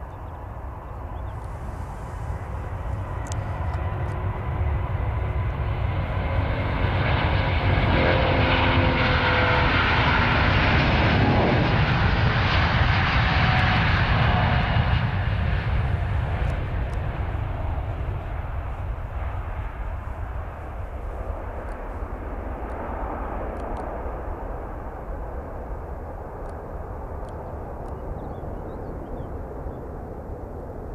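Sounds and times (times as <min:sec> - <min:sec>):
jet engines roaring at takeoff: 0:00.0 - 0:30.9.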